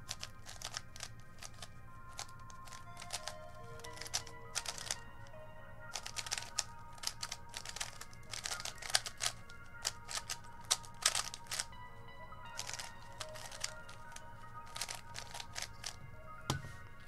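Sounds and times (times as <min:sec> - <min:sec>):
puzzle cube plastic clicking: 0:00.0 - 0:05.0, 0:05.9 - 0:11.8, 0:12.5 - 0:16.6
soft background music: 0:00.0 - 0:17.0.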